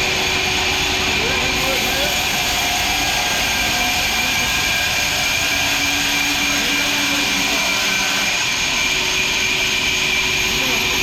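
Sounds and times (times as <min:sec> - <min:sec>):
sawmill machinery whining: 0:00.0 - 0:11.0.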